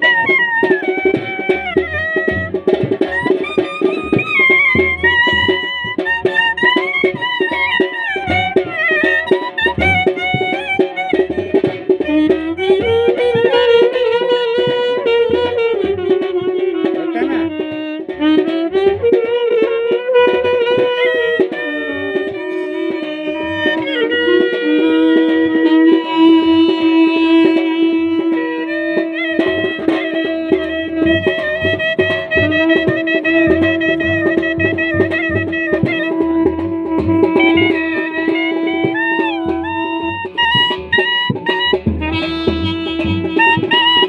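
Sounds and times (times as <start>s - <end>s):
brass instrument playing: 0.0s - 44.0s
clarinet melody: 0.0s - 44.0s
steady drum beat: 0.0s - 44.0s.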